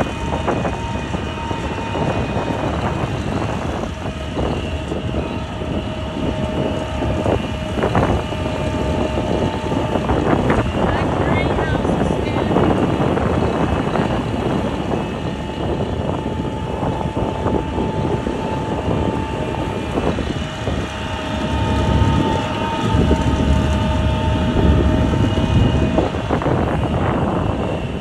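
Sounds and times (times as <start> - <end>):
vehicle low rumble: 0.0 - 28.0.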